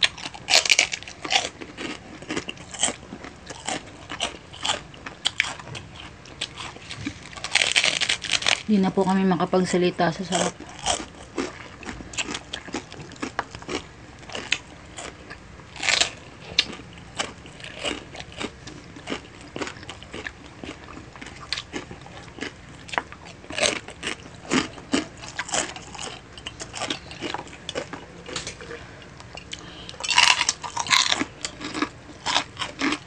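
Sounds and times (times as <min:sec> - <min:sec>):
crisp crunches of pork rinds: 0:00.0 - 0:08.7, 0:10.4 - 0:33.0
soft wet chewing: 0:00.0 - 0:08.7, 0:10.4 - 0:33.0.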